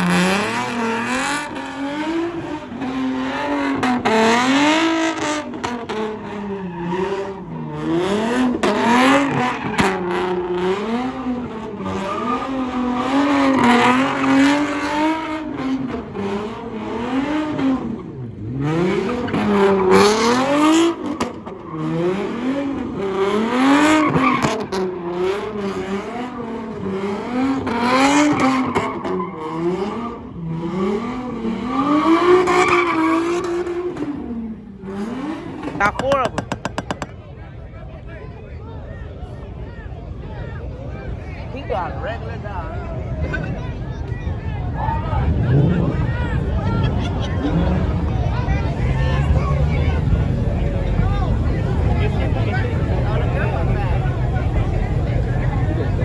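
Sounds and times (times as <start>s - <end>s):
car engine revving: 0.0s - 37.3s, 42.8s - 56.0s.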